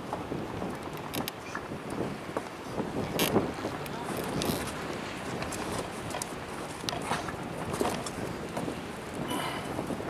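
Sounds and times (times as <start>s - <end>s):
wind on microphone: 0.0s - 10.0s.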